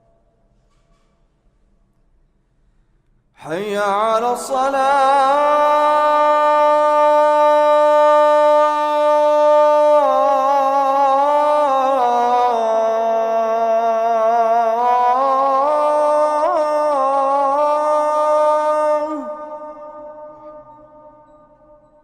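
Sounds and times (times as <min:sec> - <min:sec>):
person chanting call to prayer: 0:03.4 - 0:22.0.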